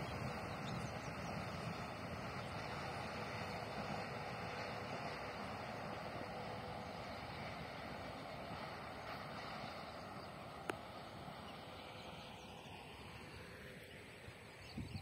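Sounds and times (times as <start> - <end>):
passing train rumble: 0.0 - 15.0.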